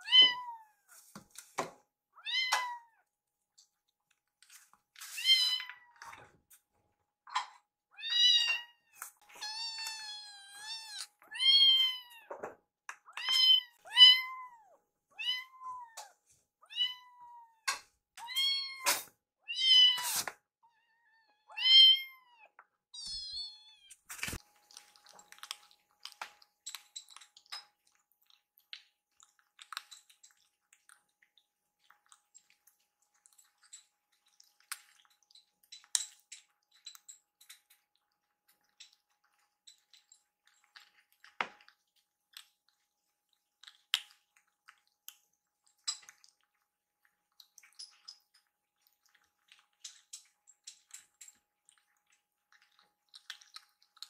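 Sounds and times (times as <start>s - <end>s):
kittens lapping food: 2.3s - 18.4s, 21.5s - 54.0s.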